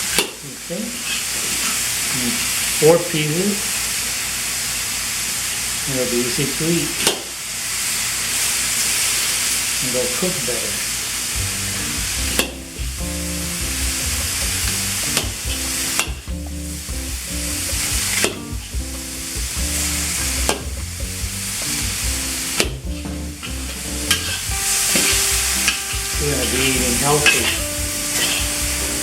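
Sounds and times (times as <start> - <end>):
food sizzling in a pan: 0.0 - 2.8, 3.5 - 29.0.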